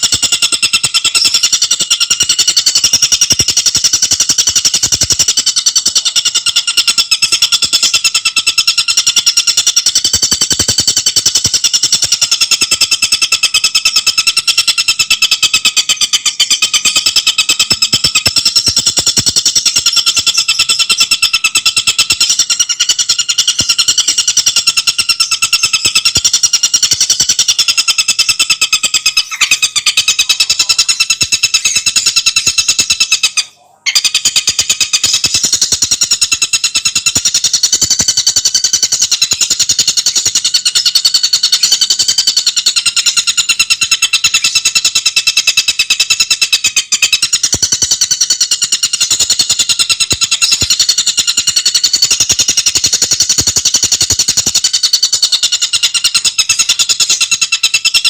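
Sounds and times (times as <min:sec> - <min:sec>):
songbird chattering trill: 0:00.0 - 0:58.0.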